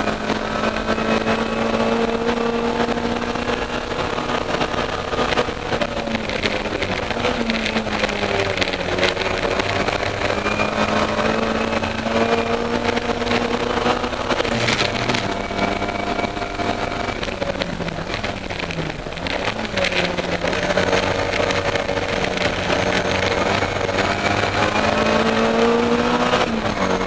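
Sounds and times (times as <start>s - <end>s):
race car engine revving: 0.0s - 27.0s
wind and road noise: 0.0s - 27.0s.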